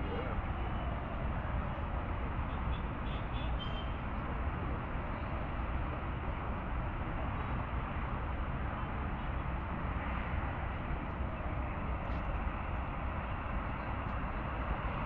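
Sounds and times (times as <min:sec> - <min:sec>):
distant expressway traffic rumbling: 0:00.0 - 0:15.0.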